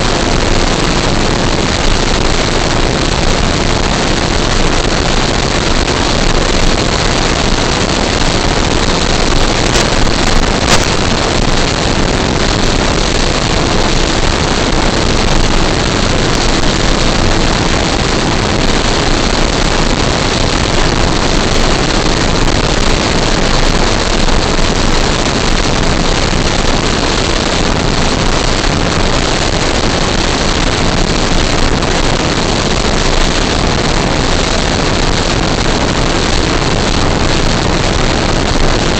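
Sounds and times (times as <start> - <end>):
high motor whine: 0.0 - 38.9
propeller noise: 0.0 - 38.9
wind rush: 0.0 - 38.9.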